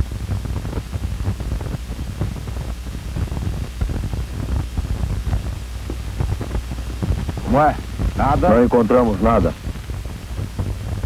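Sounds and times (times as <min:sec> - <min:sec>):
crackles and clicks: 0:00.0 - 0:11.0
film soundtrack hiss and hum: 0:00.0 - 0:11.0.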